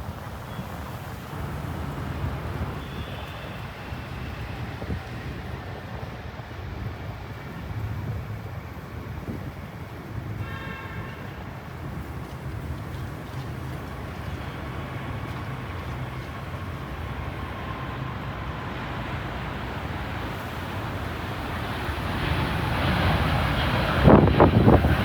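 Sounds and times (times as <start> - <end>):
jet airliner engines rumbling: 0.0 - 10.8, 11.6 - 25.0.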